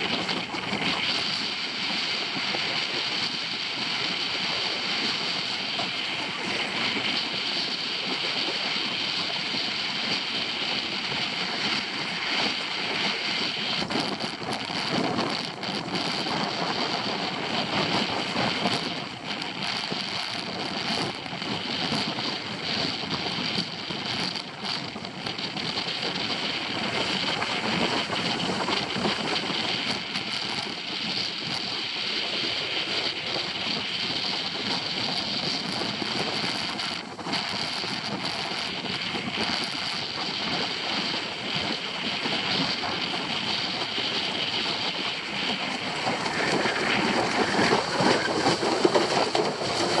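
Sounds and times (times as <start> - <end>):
water rushing off board hull: 0.0 - 50.0
wind buffeting microphone: 0.0 - 50.0.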